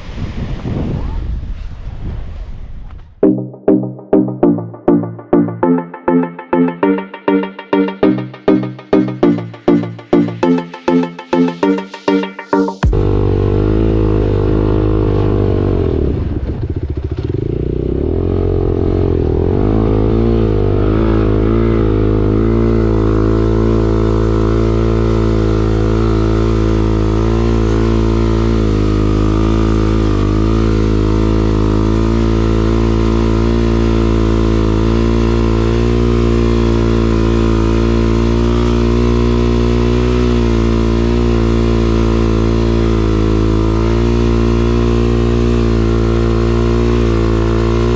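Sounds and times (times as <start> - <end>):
motorcycle engine running: 8.0 - 12.0, 12.7 - 47.9.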